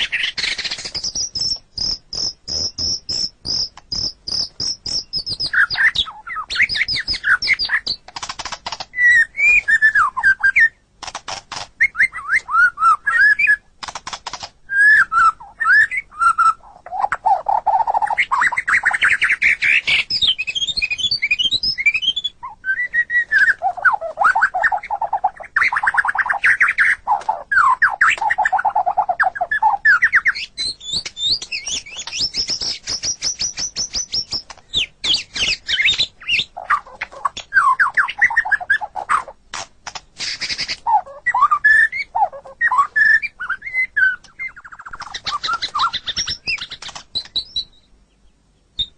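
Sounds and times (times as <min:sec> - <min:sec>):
bird singing varied song: 0:00.0 - 0:10.9, 0:11.5 - 0:39.4, 0:40.2 - 0:48.9.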